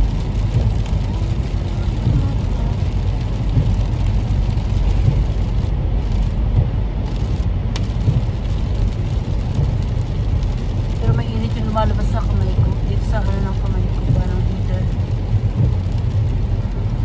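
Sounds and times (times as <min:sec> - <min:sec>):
rain: 0:00.0 - 0:17.0
road and engine rumble: 0:00.0 - 0:17.0.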